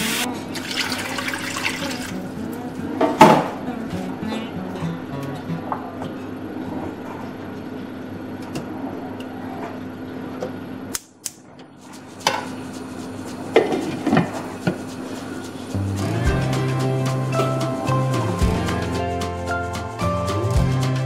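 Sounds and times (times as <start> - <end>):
steady low hum: 2.1 - 20.9.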